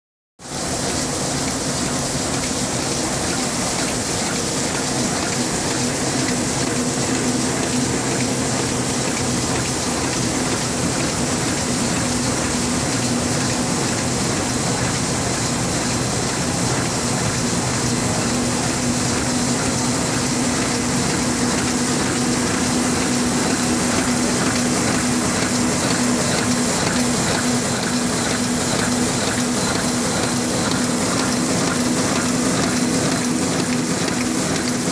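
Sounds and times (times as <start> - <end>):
printing press whirring: 0.4 - 34.9.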